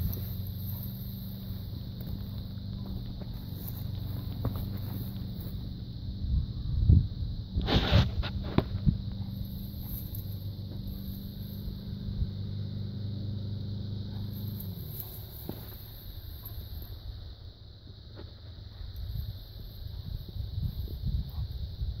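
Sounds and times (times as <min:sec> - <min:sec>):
engine humming: 0:00.0 - 0:21.8.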